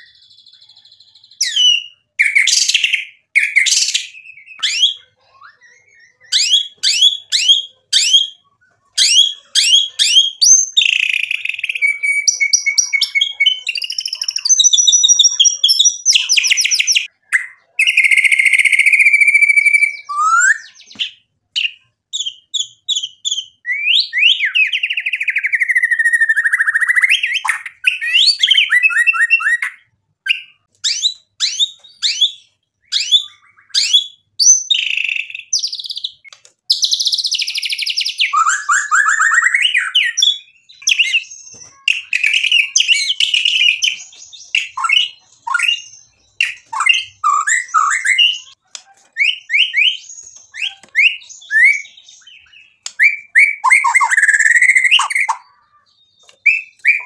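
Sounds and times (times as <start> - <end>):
bird singing whistles and trills: 0.0 - 57.0.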